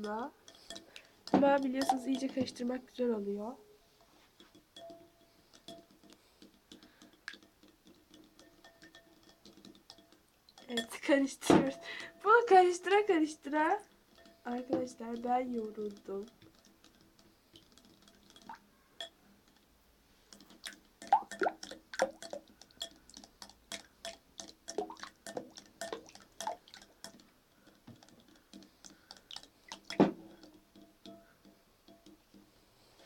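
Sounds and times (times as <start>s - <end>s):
spoon stirring slime in a bowl: 0.0s - 3.0s, 4.0s - 19.7s, 20.3s - 33.0s.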